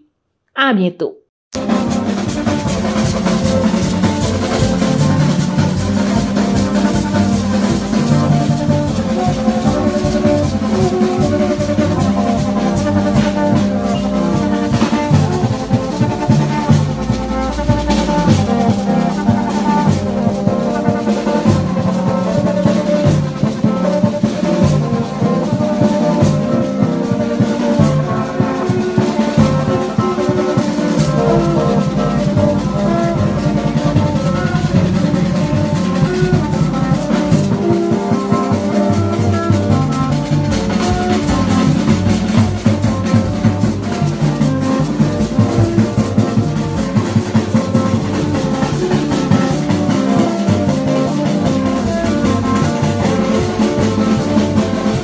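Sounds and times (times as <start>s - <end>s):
plastic horns sounding notes: 1.5s - 55.0s
steady drum beat: 1.5s - 55.0s.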